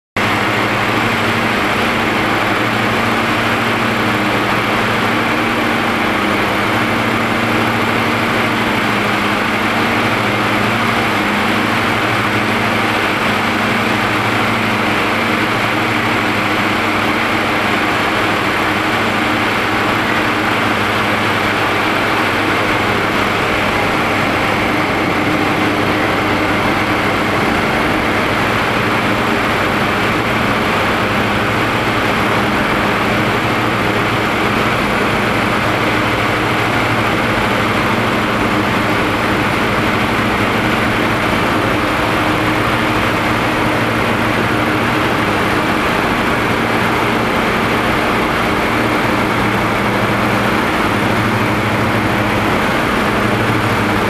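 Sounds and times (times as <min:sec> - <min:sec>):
aircraft engines and propellers humming: 0:00.2 - 0:54.0
rush of air: 0:00.2 - 0:54.0.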